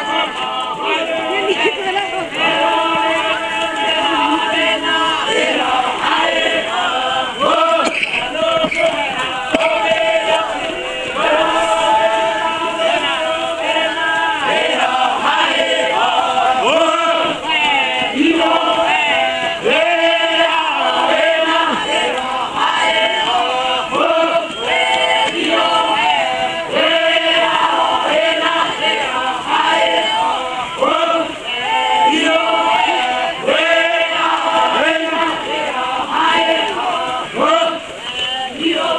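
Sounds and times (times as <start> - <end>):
group chanting and singing: 0.0 - 38.9.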